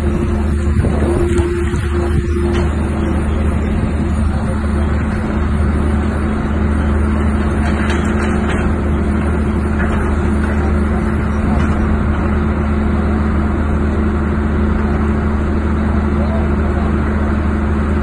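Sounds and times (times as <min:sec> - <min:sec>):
diesel engine and hydraulics humming: 0:00.0 - 0:18.0.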